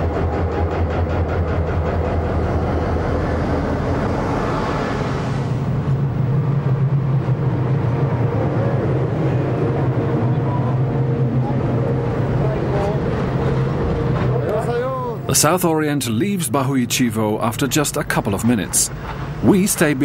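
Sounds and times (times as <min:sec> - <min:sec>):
diesel locomotive engine hum: 0:00.0 - 0:20.0
train cars rolling past: 0:00.0 - 0:20.0.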